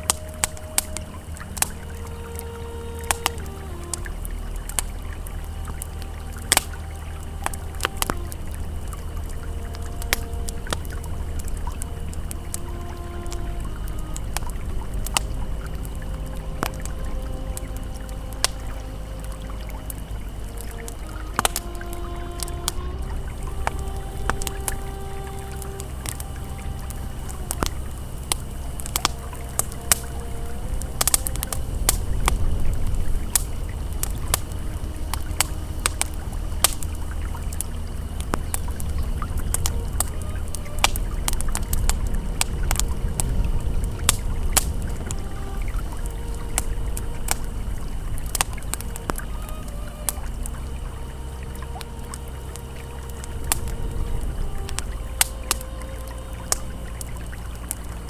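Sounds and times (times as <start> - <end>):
campfire crackling and popping: 0.0 - 58.0
river flowing: 0.0 - 58.0.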